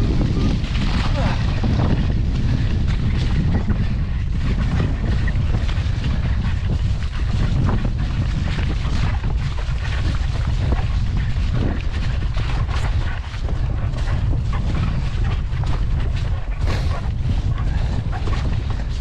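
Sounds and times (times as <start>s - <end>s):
bike rattling over rough ground: 0.0s - 19.0s
wind buffeting microphone: 0.0s - 19.0s.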